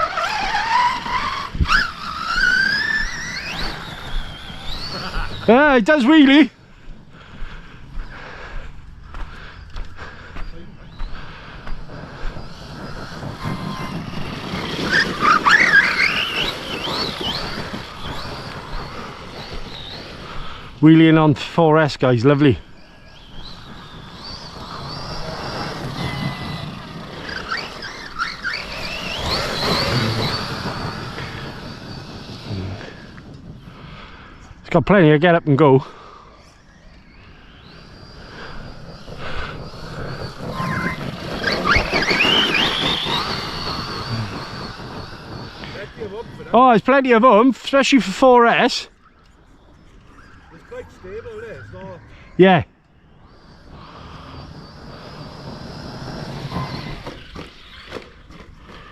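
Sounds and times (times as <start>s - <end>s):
tyres on ground: 0.0s - 7.1s, 7.8s - 21.2s, 22.0s - 34.6s, 36.6s - 58.9s
electric motor whining: 0.0s - 58.9s.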